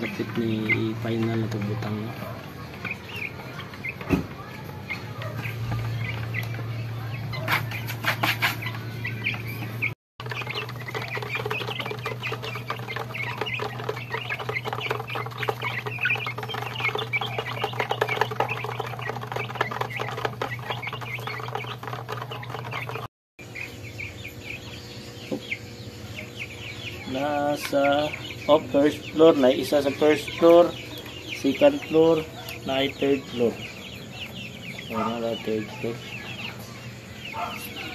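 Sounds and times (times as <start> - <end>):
chicks peeping: 0.0 - 37.9
steady low hum: 0.0 - 37.9.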